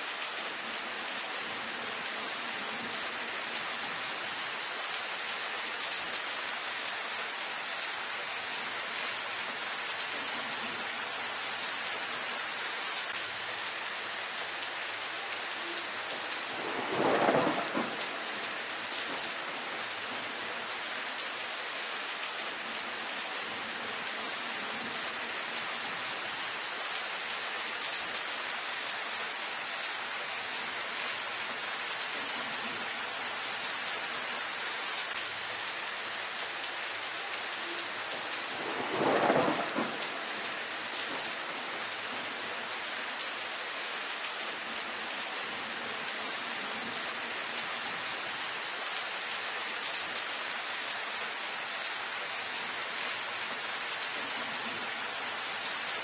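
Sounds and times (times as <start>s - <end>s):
rain on foliage: 0.0s - 56.0s.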